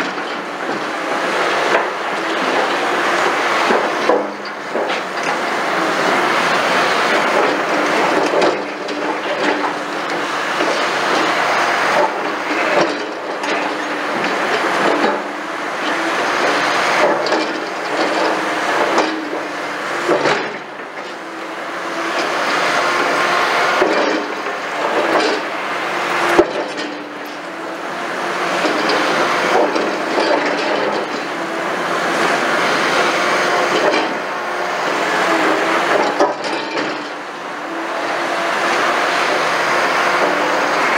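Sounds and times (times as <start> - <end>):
excavator engine and hydraulics: 0.0 - 40.9.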